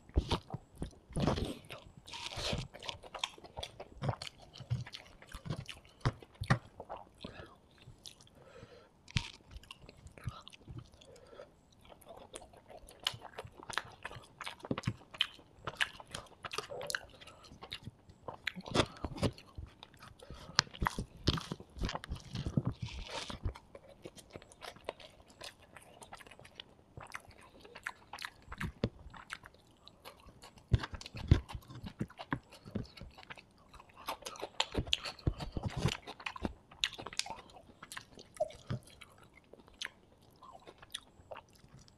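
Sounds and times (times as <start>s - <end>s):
man chewing food: 0.0s - 41.9s.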